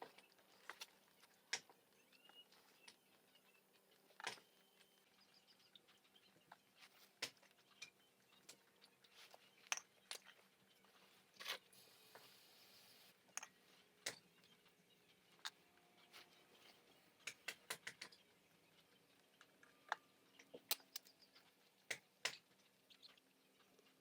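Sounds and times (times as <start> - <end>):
light clicks of small parts: 0.0 - 12.3, 13.3 - 24.0.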